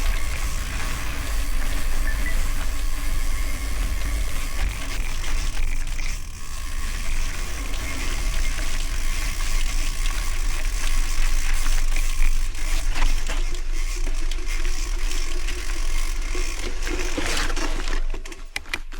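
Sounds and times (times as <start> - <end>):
bike rattling and clicking: 0.0 - 18.9.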